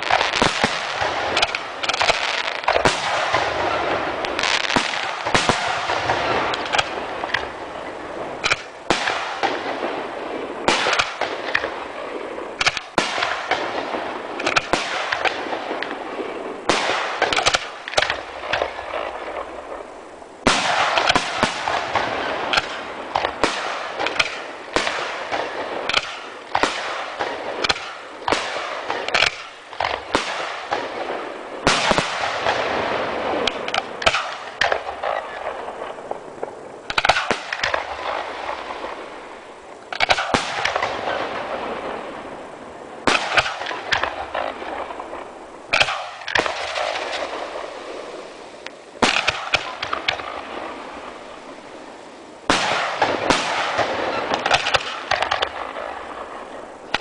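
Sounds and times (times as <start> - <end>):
fireworks bangs: 0.0 - 57.0
fireworks crackle: 0.0 - 57.0.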